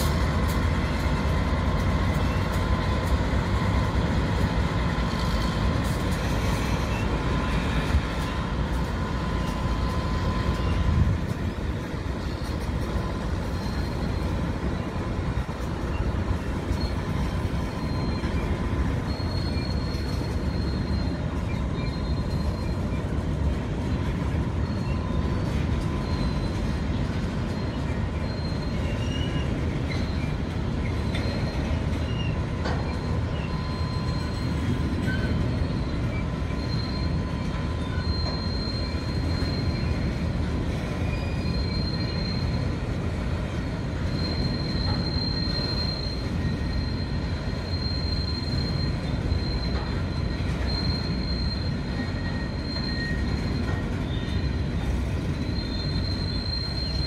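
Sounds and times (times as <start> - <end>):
high wheel squeal: 0.0 - 57.0
train wheels rumbling on rails: 0.0 - 57.0.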